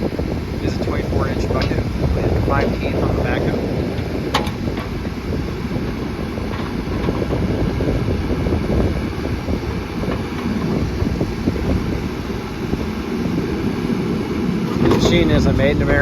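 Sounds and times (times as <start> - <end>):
diesel engine idling: 0.0 - 16.0
wind noise on microphone: 0.0 - 16.0.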